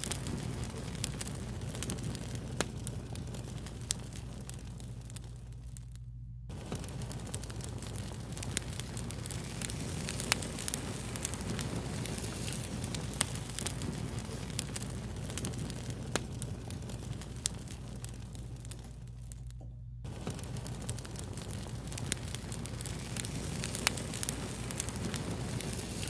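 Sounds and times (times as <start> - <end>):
fire snaps: 0.0 - 26.0
wood fire crackling: 0.0 - 26.0.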